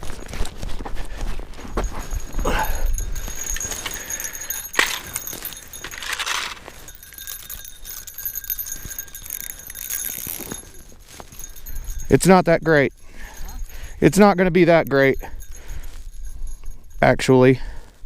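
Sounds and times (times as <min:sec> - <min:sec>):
fishing gear clicks and clinks: 0:00.0 - 0:17.4.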